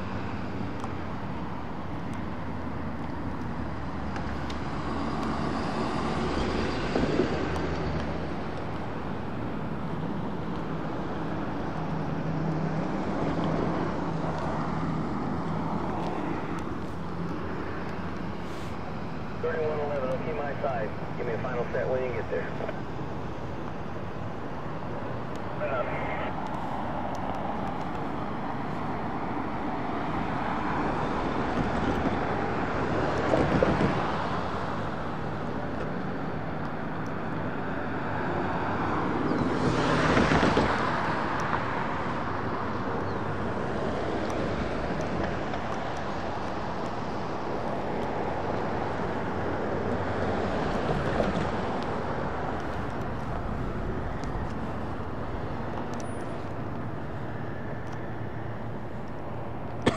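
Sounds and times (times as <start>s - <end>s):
cars passing: 0.0s - 59.9s
steady traffic hum: 0.0s - 59.9s.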